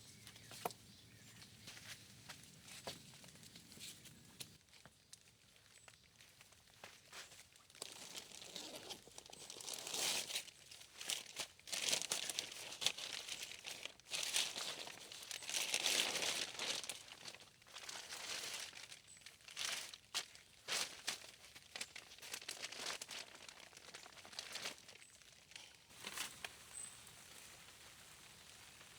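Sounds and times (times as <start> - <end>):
crinkling being crumpled: 5.2 - 28.9.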